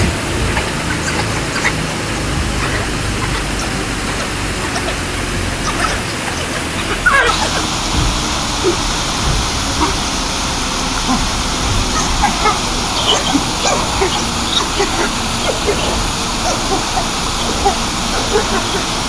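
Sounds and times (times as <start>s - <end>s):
steady rushing noise: 0.0s - 19.0s
wild dogs squeaking calls: 0.2s - 19.0s.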